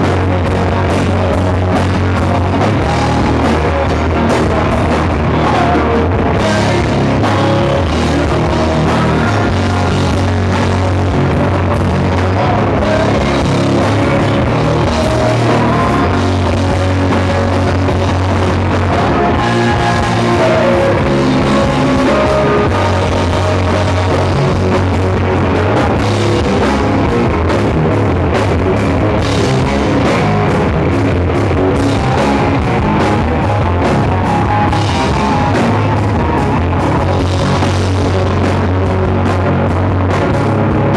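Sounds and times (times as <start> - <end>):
bass guitar: 0.0 - 40.9
drum kit: 0.0 - 40.9
guitars: 0.0 - 40.9.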